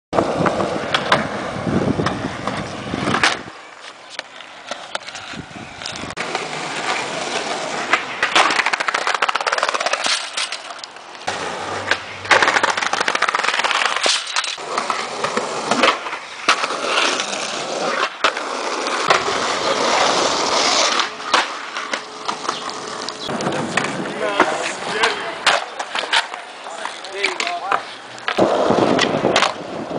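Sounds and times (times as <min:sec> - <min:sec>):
skateboard wheels rolling on pavement: 0:00.1 - 0:29.9
skateboard clacking on ground: 0:00.2 - 0:01.4, 0:02.0 - 0:29.7.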